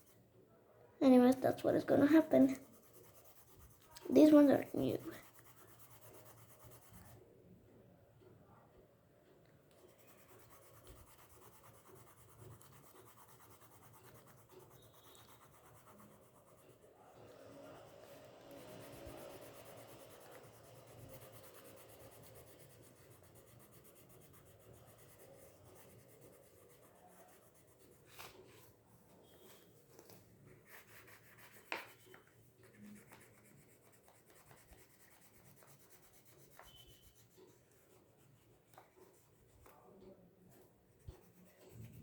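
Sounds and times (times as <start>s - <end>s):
oil pastels scratching on paper: 1.5s - 7.2s, 9.7s - 42.0s.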